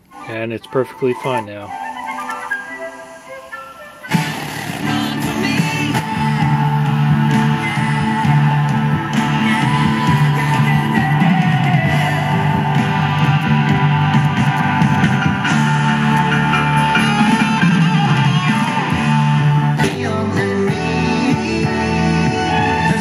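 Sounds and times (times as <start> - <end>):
guitar rock music through speakers: 0.0 - 23.0.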